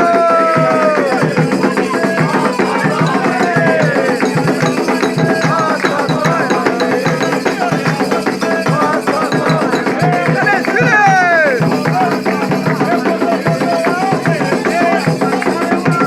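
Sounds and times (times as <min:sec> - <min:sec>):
bell accompaniment: 0:00.0 - 0:16.0
hand drums beating: 0:00.0 - 0:16.0
voices singing: 0:00.0 - 0:16.0.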